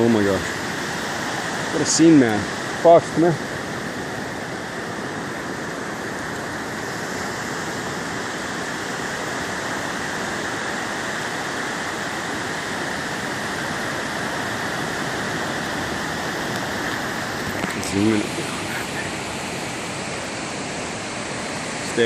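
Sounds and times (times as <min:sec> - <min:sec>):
ocean surf: 0:00.0 - 0:22.0.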